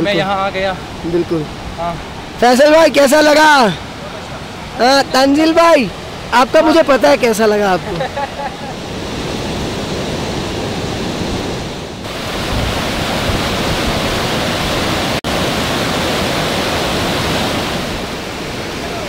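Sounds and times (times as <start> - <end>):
river rushing over boulders: 0.0 - 19.0.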